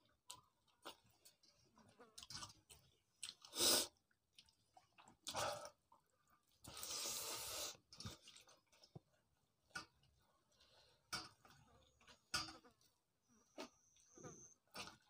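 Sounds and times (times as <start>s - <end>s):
wet squishing of rice in water: 0.0s - 7.0s, 7.6s - 15.0s
chewing: 0.1s - 7.1s, 7.8s - 15.0s.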